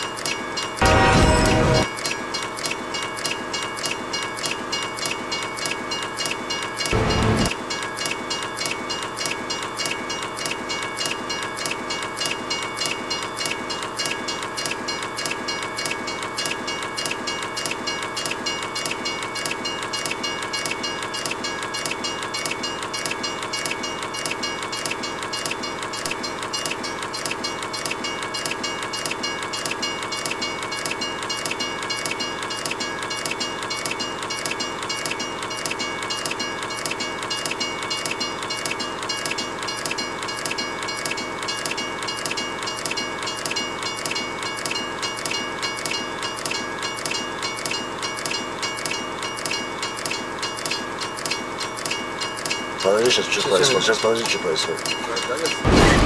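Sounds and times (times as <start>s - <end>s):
train wheels clickety-clack: 7.7s - 55.6s.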